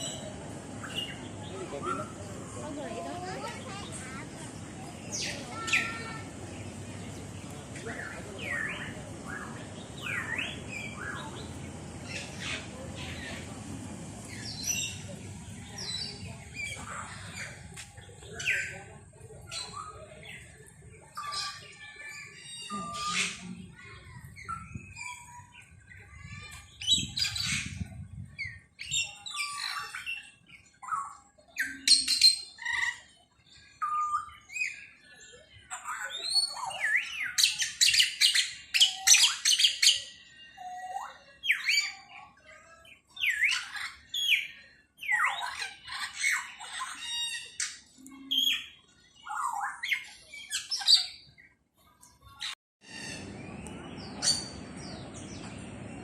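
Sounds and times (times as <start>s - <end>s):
aviary birds calling: 0.0s - 56.0s.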